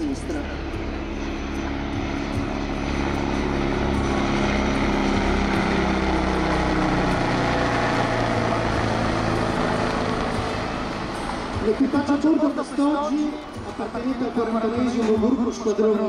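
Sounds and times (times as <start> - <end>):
helicopter rotor and turbine: 0.0 - 16.0.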